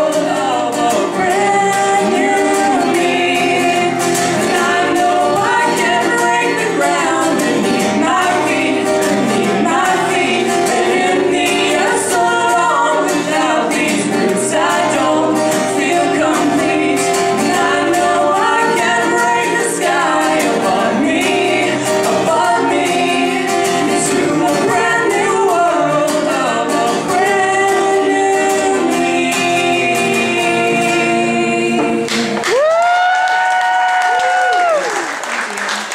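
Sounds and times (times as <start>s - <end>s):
live band with singing: 0.0s - 35.0s.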